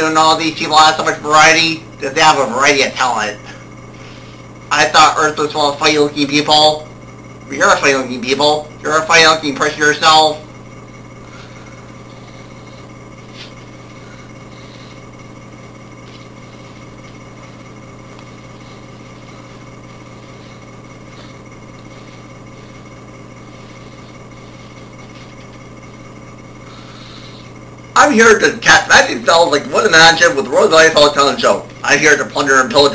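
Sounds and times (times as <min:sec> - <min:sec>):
low hum with faint hiss: 0:00.0 - 0:32.9.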